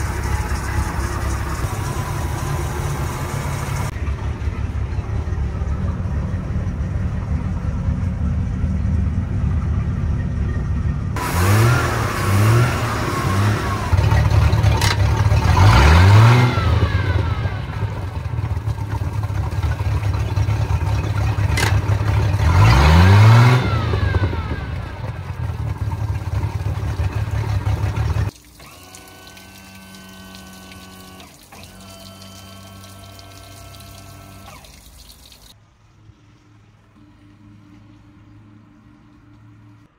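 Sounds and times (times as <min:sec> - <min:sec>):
boat engine idling and revving: 0:00.0 - 0:39.9.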